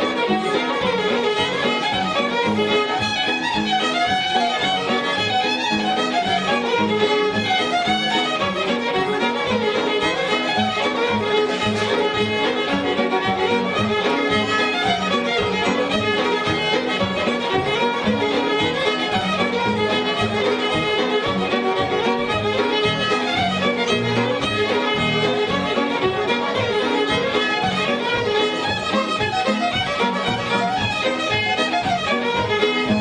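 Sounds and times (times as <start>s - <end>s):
fiddle playing quick notes: 0.0s - 33.0s
rhythmic accompaniment: 0.0s - 33.0s.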